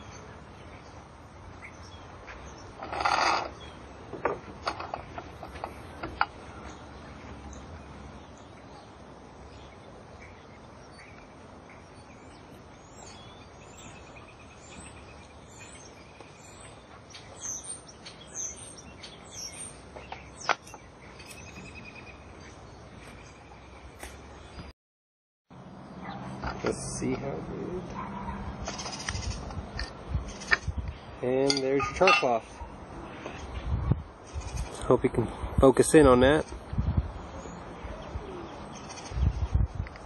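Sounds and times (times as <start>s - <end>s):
birds chirping: 0.0s - 24.7s, 25.7s - 40.0s
steady outdoor hiss: 0.0s - 24.7s, 25.5s - 40.0s.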